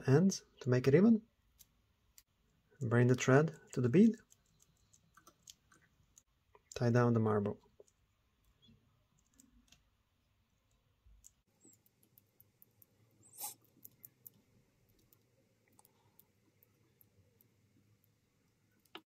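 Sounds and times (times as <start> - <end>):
thread ticks and rustles: 3.1 - 6.9, 7.6 - 19.0.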